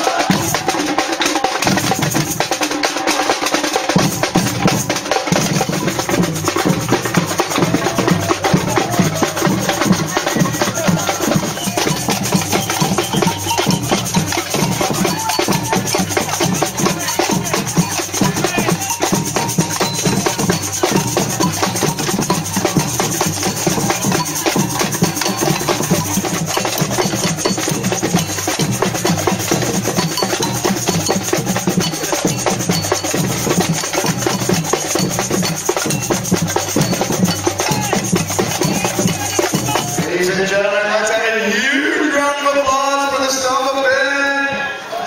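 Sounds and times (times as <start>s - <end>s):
metal drums played with sticks: 0.0s - 40.6s.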